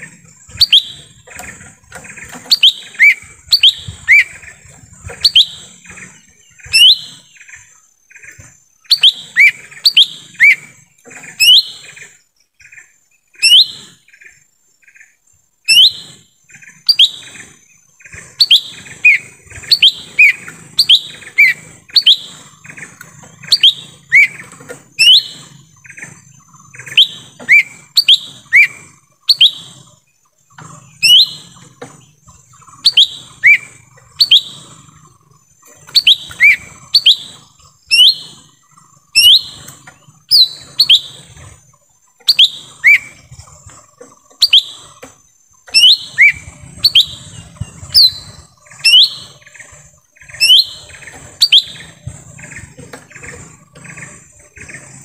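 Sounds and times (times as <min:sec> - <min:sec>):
bird calling sharp upward notes: 0:00.0 - 0:07.8, 0:08.4 - 0:12.0, 0:13.4 - 0:14.1, 0:15.7 - 0:16.2, 0:16.8 - 0:17.6, 0:18.2 - 0:25.9, 0:26.6 - 0:30.0, 0:31.0 - 0:31.8, 0:32.6 - 0:52.8.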